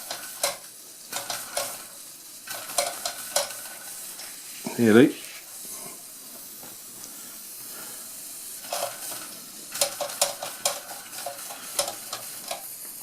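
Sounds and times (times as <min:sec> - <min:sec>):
toy steam engine hissing: 0:00.0 - 0:13.0.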